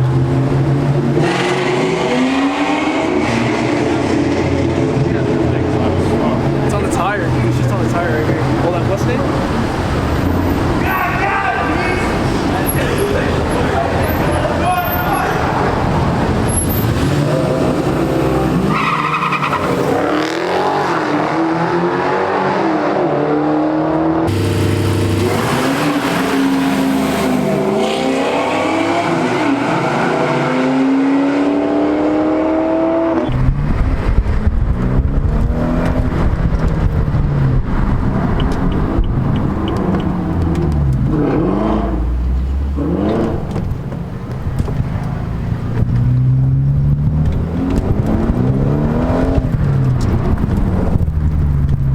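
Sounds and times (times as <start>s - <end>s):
car engines revving: 0.0s - 51.9s.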